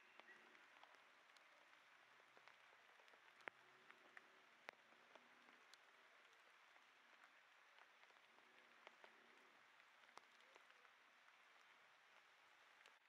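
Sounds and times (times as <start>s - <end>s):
faint rain hiss: 0.0s - 13.0s
raindrops ticking: 0.0s - 13.0s.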